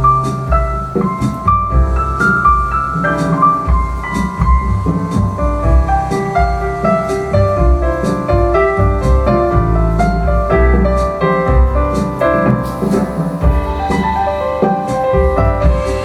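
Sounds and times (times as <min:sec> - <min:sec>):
piano music with pulsing bass: 0:00.0 - 0:16.0.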